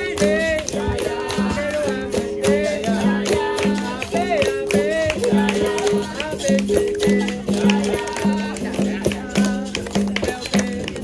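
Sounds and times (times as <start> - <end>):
berimbaus playing rhythm: 0.0 - 11.0
people singing: 0.0 - 11.0
rattles and hand percussion: 0.0 - 11.0.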